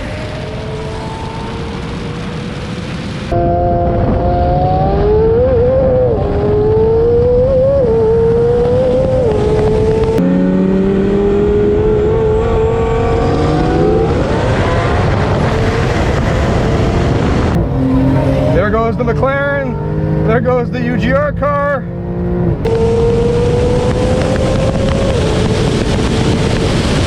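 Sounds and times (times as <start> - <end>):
car engine at full throttle: 0.0 - 27.0.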